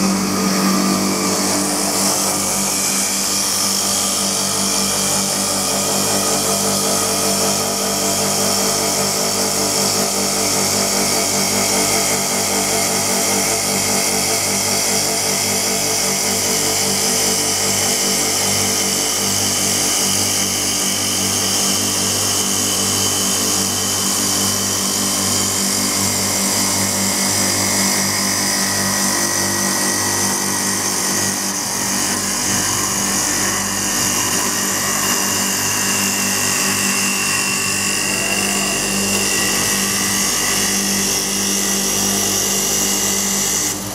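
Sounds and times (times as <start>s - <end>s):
motor and spindle whine: 0.0s - 43.9s.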